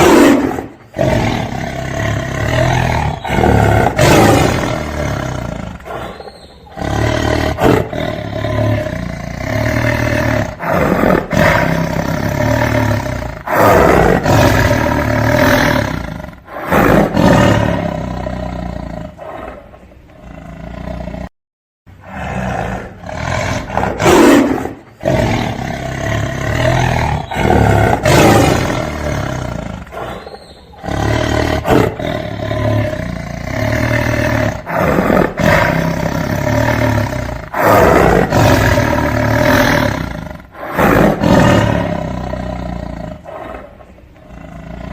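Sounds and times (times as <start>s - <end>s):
tiger roaring: 0.0s - 21.3s, 21.9s - 44.9s.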